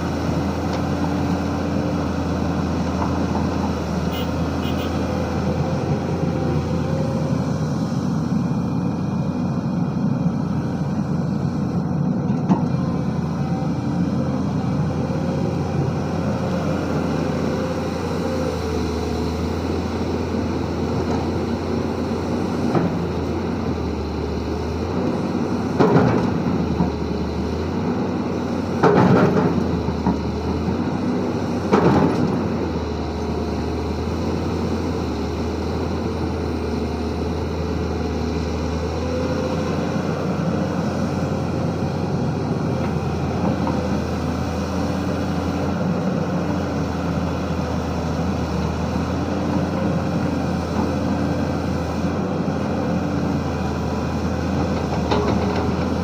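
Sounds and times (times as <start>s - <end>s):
excavator diesel engine working: 0.0s - 56.0s.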